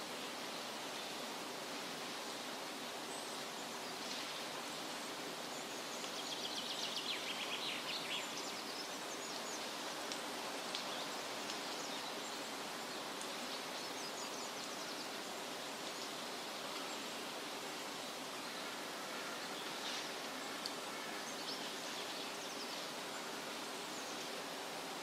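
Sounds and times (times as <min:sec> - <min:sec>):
outdoor background noise by lake: 0:00.0 - 0:25.0.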